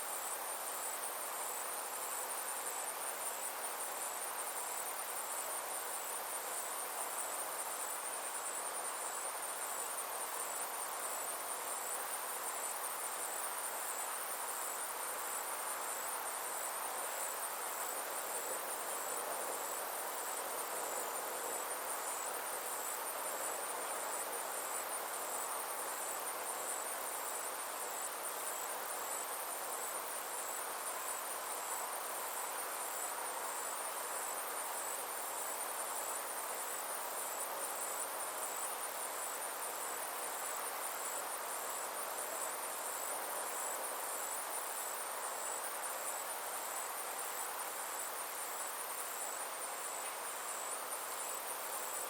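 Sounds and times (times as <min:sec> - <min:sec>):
insects trilling: 0:00.0 - 0:52.0
soft even hiss: 0:00.0 - 0:52.0.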